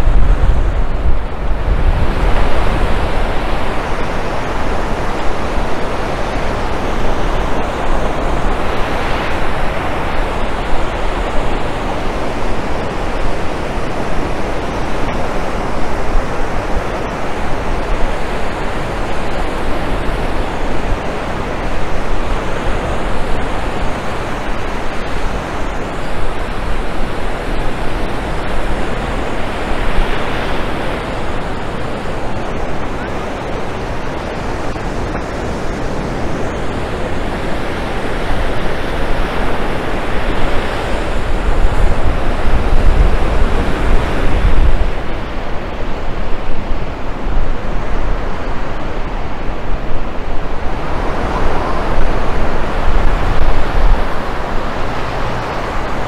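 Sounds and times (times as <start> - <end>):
ocean surf washing onto beach: 0.0 - 56.0
wind rumble on microphone: 0.0 - 56.0.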